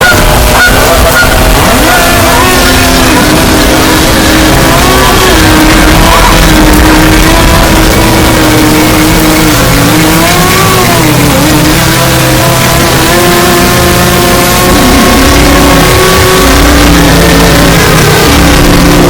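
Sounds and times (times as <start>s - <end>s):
harsh distorted noise music: 0.0s - 19.0s.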